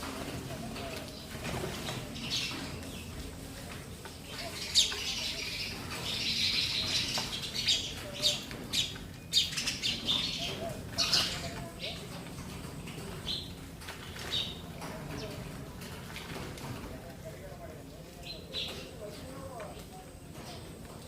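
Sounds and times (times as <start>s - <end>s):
sparrows chirping: 0.0s - 21.0s.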